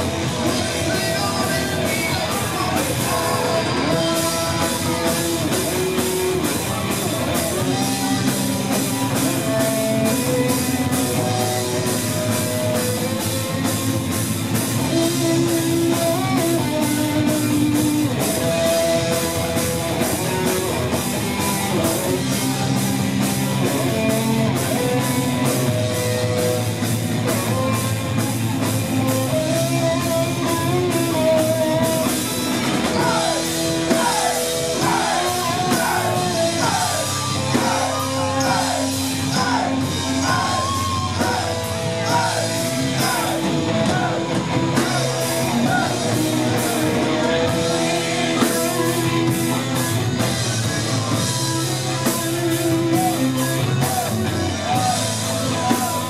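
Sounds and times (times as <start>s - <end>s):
bending lead guitar notes: 0.0s - 56.0s
heavy metal band playing: 0.0s - 56.0s.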